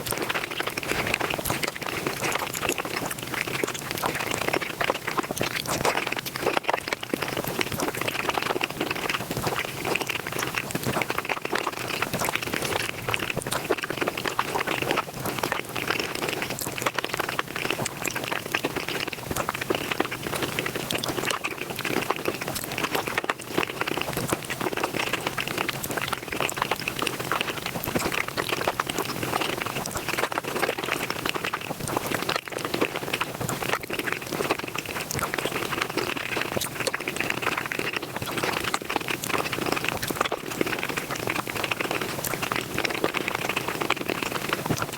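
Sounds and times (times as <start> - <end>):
sped-up chewing and mouth noises: 0.0 - 44.9.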